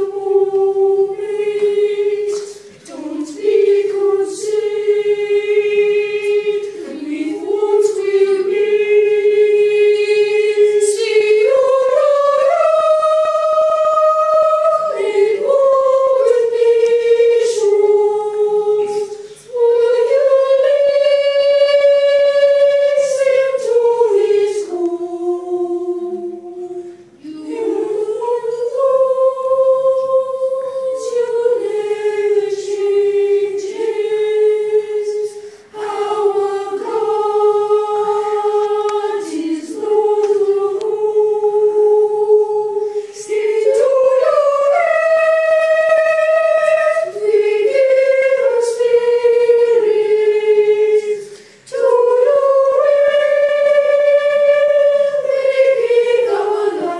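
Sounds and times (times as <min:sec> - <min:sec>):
treble voice singing: 0:00.0 - 0:56.9.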